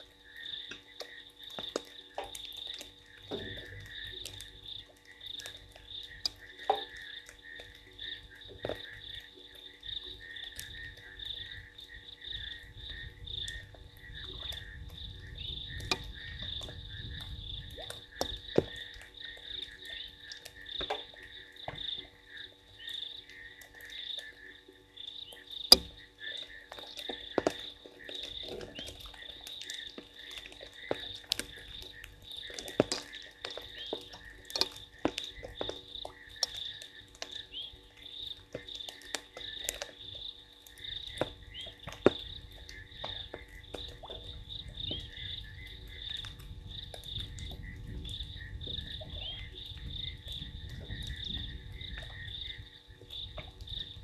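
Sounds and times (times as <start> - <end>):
frogs calling: 0.0 - 54.0
rain dripping ticks: 0.0 - 54.0.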